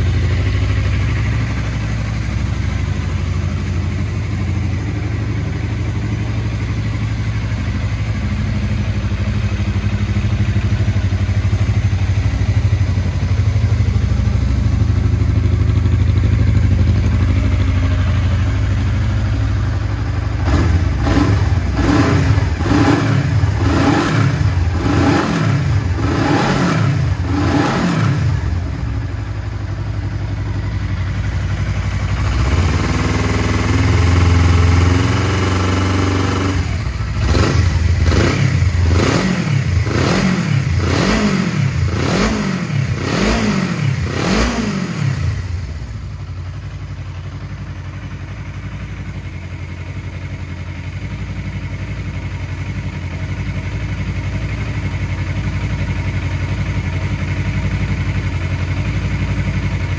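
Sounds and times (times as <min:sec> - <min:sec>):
motorcycle engine revving and idling: 0:00.0 - 0:59.9.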